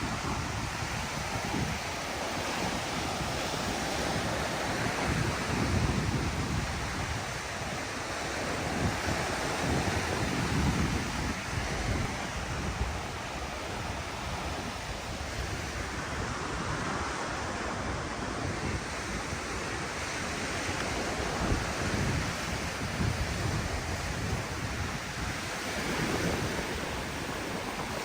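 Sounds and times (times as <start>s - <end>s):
ocean waves washing onto beach: 0.0s - 28.0s
wind gusting on microphone: 0.0s - 28.0s.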